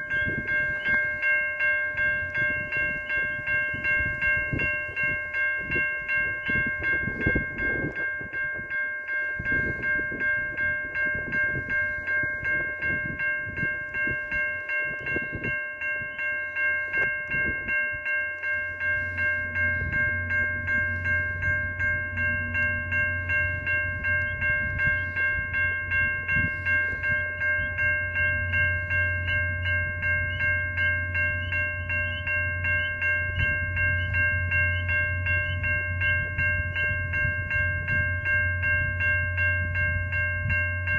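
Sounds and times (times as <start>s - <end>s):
level-crossing warning bell: 0.0s - 40.9s.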